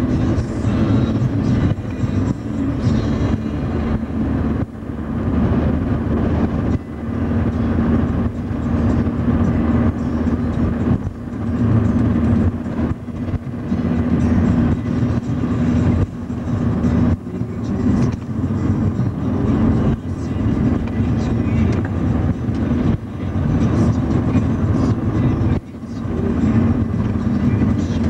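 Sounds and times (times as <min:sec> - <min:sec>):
road and engine noise in car: 0:00.0 - 0:28.0.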